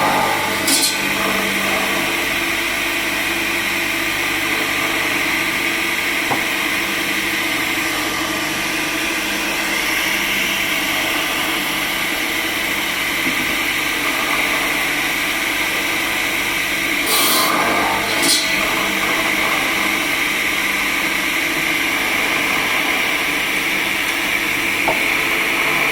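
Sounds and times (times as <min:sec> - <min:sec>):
sawmill machinery whine: 0:00.0 - 0:25.9.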